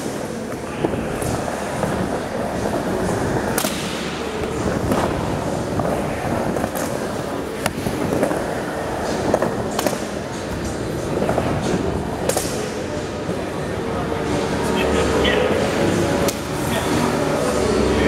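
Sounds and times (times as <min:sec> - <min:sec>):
skateboard wheels rumbling: 0:00.0 - 0:14.7.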